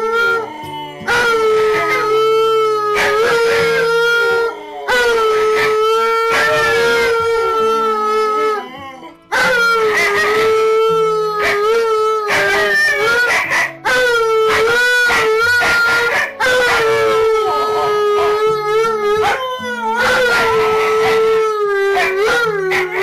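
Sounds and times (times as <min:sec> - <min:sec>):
background music: 0:00.0 - 0:23.0
dogs howling: 0:00.0 - 0:23.0.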